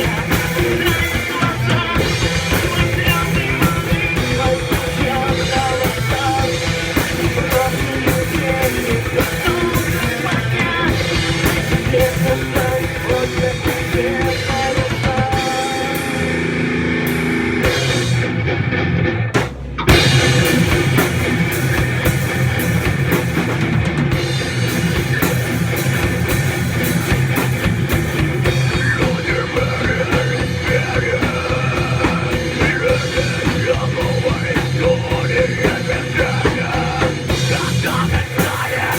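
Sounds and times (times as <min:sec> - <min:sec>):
heavy metal music: 0:00.0 - 0:38.9.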